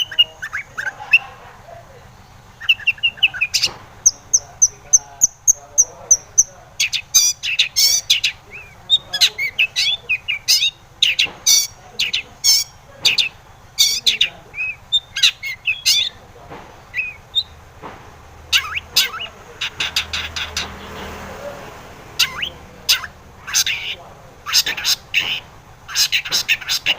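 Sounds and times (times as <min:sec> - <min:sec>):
shrike chattering song: 0:00.0 - 0:26.9.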